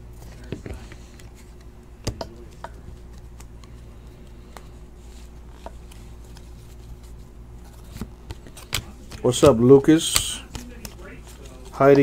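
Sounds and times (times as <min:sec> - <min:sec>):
steady low hum: 0:00.0 - 0:12.0
cards being shuffled by hand: 0:00.1 - 0:12.0.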